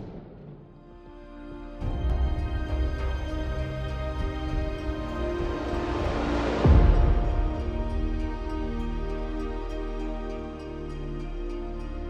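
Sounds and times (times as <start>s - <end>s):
cinematic held chords: 0.0s - 12.0s.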